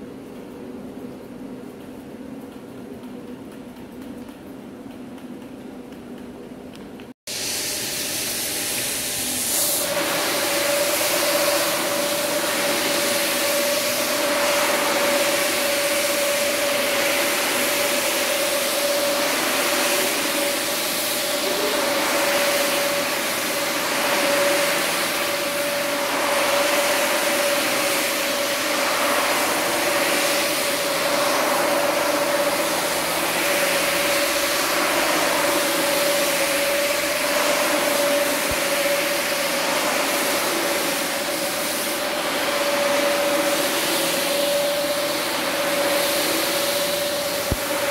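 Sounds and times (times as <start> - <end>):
pressure washer spraying water: 7.3 - 47.9.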